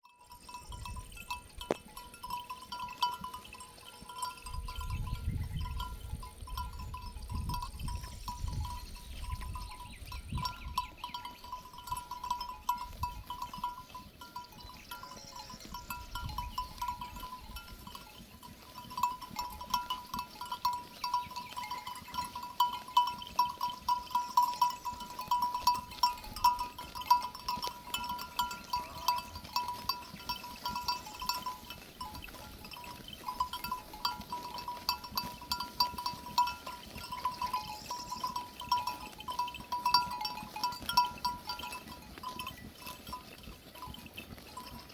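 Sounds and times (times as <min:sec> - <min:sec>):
livestock bells clanking: 0:00.0 - 0:44.9.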